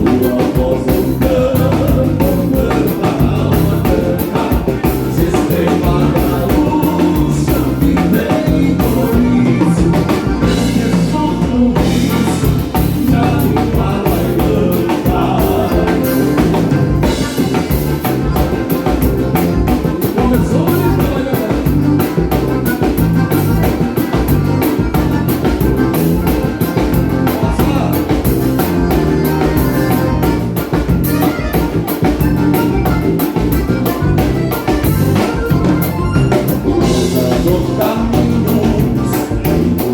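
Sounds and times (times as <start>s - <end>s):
drum kit beat: 0.0s - 39.9s
live dance band playing: 0.0s - 39.9s.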